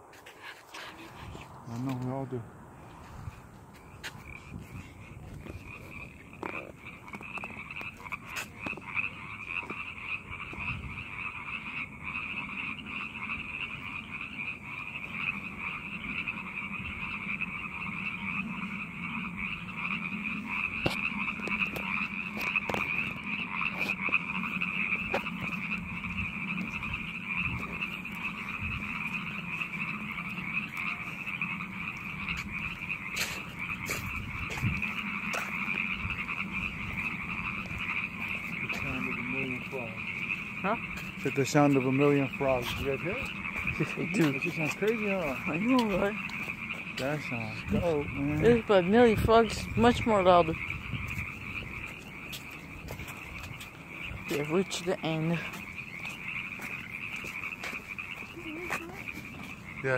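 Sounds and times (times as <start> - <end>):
chorus of frogs calling: 0.0 - 59.9.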